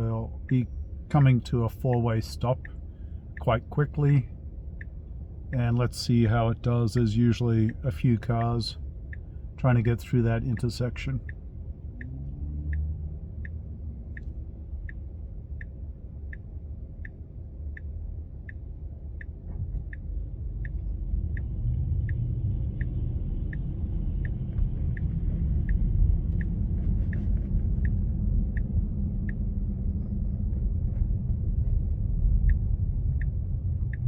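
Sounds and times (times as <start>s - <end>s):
road and tyre rumble: 0.0s - 34.0s
turn signal ticking: 0.0s - 34.0s.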